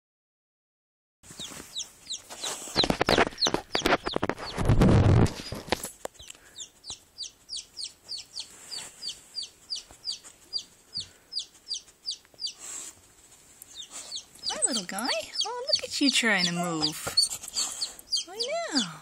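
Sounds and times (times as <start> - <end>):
baby chick peeping: 1.3 - 19.0.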